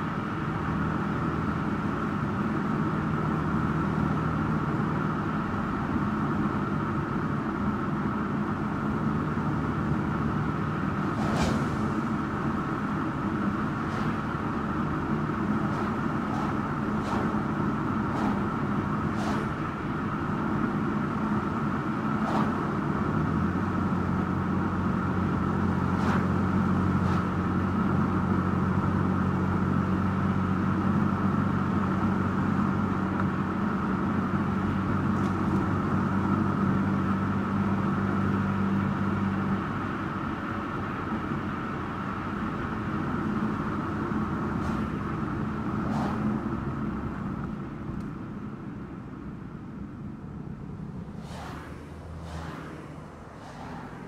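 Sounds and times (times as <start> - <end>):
car engine hum: 0.0 - 54.0.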